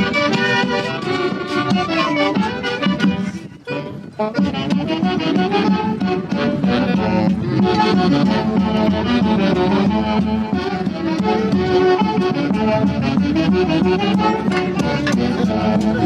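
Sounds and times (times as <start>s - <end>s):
folk orchestra dance music: 0.0s - 16.0s.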